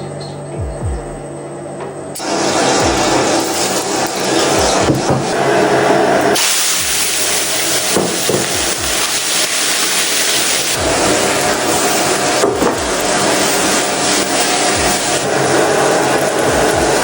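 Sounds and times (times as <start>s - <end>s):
wok being scrubbed: 2.2s - 17.0s.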